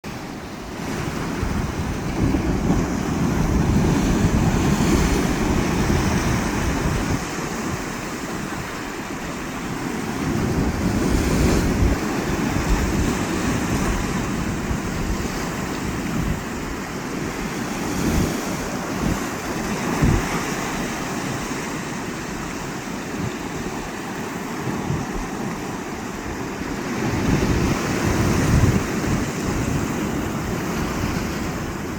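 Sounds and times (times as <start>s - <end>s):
sea waves breaking on beach: 0.0s - 31.9s
wind buffeting microphone: 0.1s - 31.9s.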